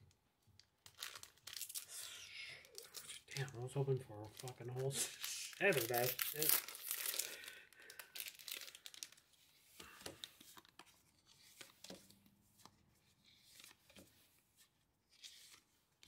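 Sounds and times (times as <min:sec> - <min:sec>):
trading cards and wrappers handled: 0:00.5 - 0:16.0.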